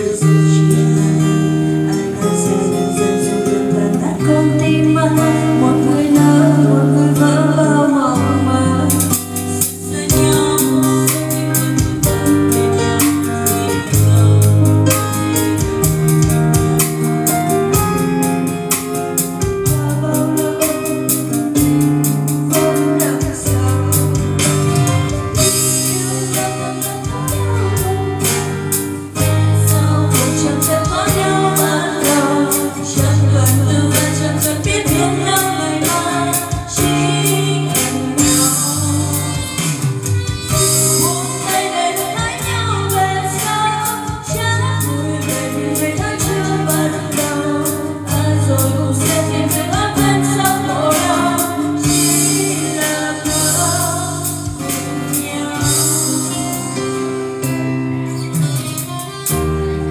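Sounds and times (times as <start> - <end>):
backing track with steady beat: 0.0 - 59.9
woman singing karaoke: 0.0 - 59.9.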